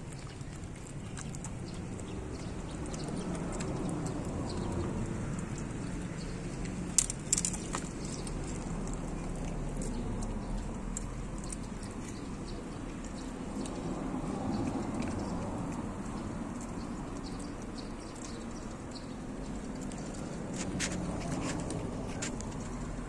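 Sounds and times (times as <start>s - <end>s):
dog chewing meat: 0.0s - 23.0s.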